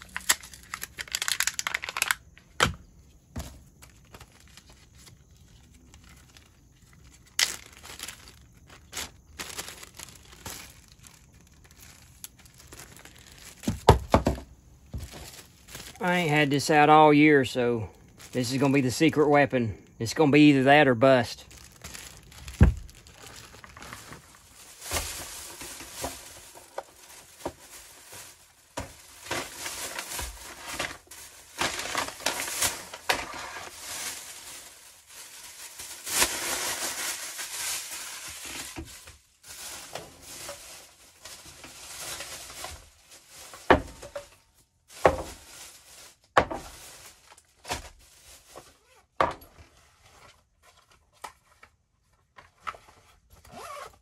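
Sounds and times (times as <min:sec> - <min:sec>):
plastic bags and fabric rustling: 0:00.0 - 0:54.0.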